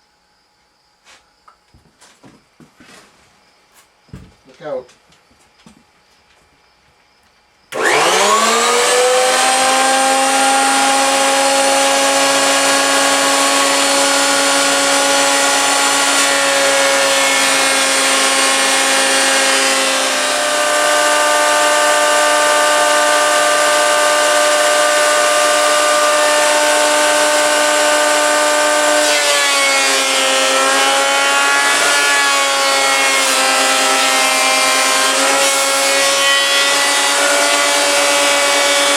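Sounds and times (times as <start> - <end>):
planer motor whine: 7.7 - 38.9.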